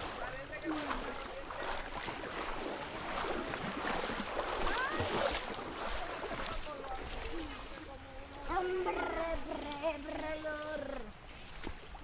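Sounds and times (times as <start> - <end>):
rushing air and water: 0.0 - 10.1.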